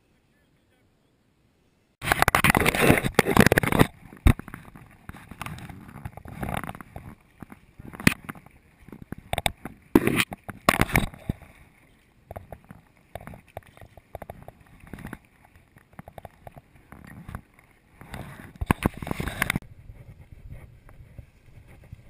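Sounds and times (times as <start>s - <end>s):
paddle strokes splashing: 2.0s - 22.0s.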